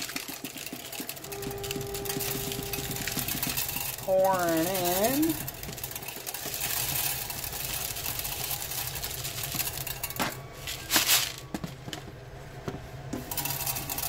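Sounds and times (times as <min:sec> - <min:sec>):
plastic flakes rattling on metal grid: 0:00.0 - 0:11.9, 0:13.2 - 0:14.0
steady machine hum: 0:00.6 - 0:14.0.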